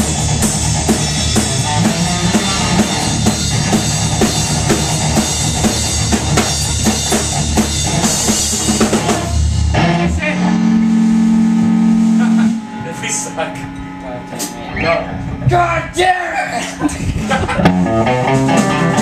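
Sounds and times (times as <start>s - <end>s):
drum kit beat: 0.0s - 14.6s, 15.4s - 19.0s
amplified electric guitars: 0.0s - 19.0s.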